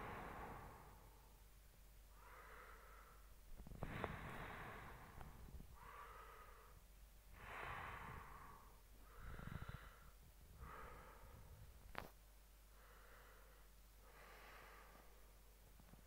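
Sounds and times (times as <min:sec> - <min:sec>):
close breathing: 0:00.0 - 0:01.4, 0:02.1 - 0:15.4
faint low hum: 0:00.0 - 0:16.0.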